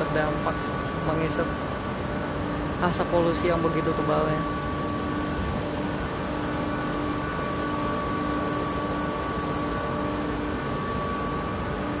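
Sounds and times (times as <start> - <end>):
droning machine hum: 0.0 - 12.0.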